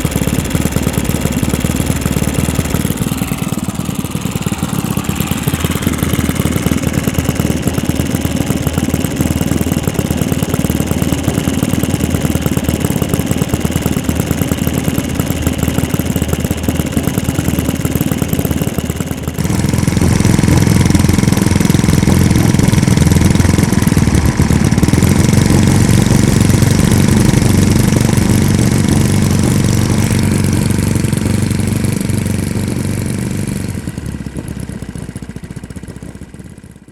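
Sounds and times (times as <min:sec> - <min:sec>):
model aircraft engines running: 0:00.0 - 0:36.9.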